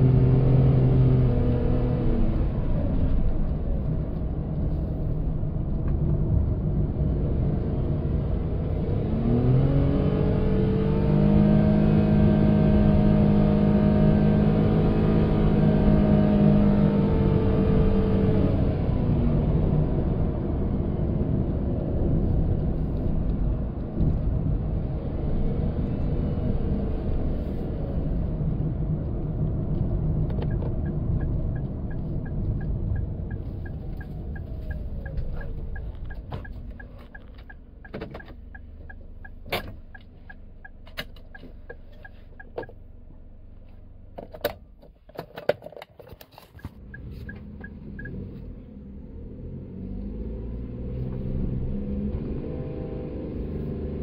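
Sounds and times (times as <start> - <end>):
van engine and road noise: 0.0 - 54.0.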